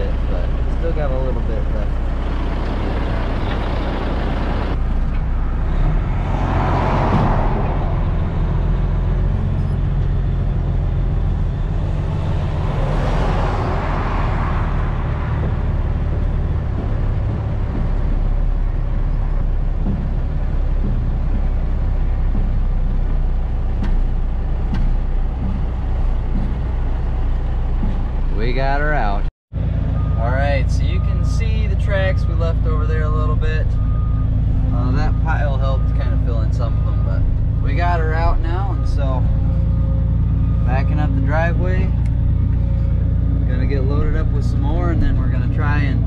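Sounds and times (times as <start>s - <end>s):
truck diesel engine revving: 0.0s - 46.0s.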